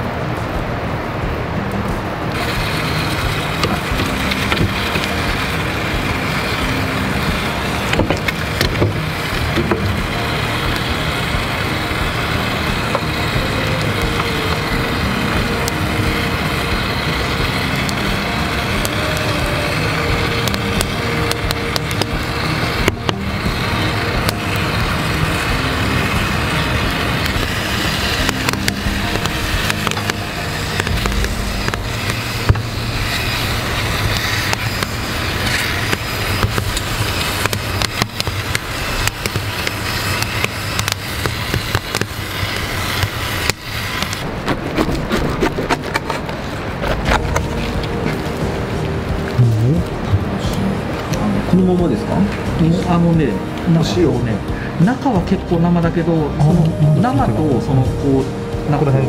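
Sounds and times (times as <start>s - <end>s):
fire crackles and pops: 0.0s - 59.0s
wood fire roaring: 0.0s - 59.0s.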